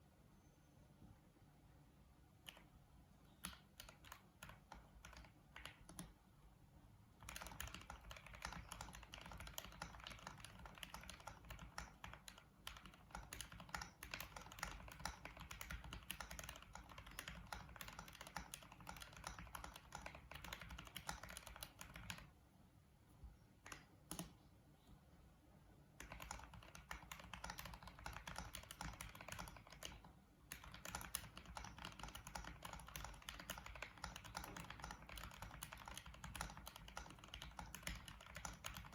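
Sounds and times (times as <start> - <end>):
mechanical keyboard typing: 2.4 - 2.7, 3.3 - 6.2, 7.2 - 22.4, 23.6 - 24.4, 26.0 - 38.9.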